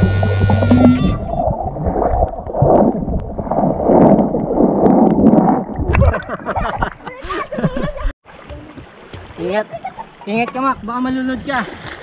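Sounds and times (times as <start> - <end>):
muffled underwater water sloshing: 0.0 - 10.2
water splashing: 0.0 - 12.0.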